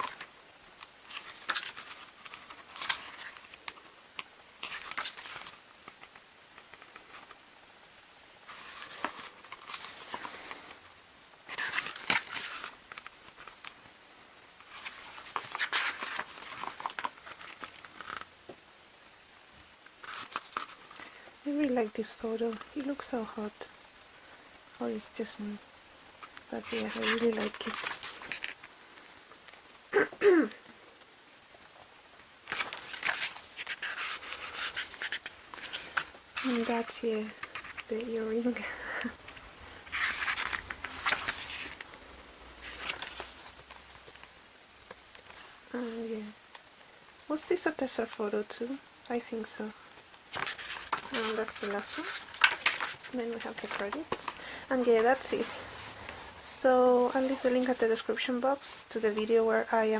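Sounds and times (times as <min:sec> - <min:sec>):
paper pages rustling and crinkling: 0:00.0 - 0:07.4, 0:08.4 - 0:10.8, 0:11.4 - 0:14.0, 0:14.6 - 0:18.6, 0:19.6 - 0:23.6, 0:26.2 - 0:29.9, 0:31.5 - 0:59.9.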